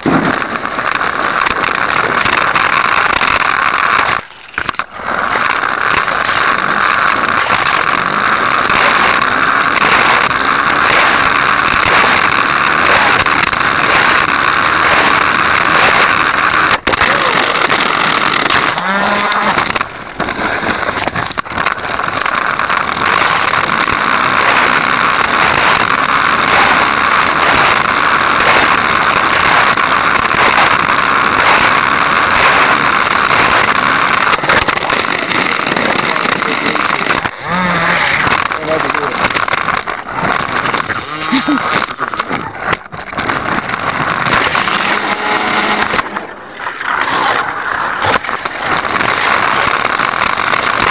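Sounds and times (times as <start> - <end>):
toy car motor whirring: 0.0 - 50.9.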